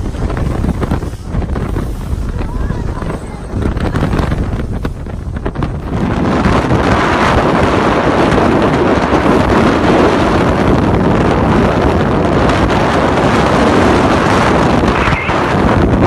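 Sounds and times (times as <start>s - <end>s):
boat engine and hull on water: 0.0s - 16.0s
wind blasting microphone: 0.0s - 16.0s.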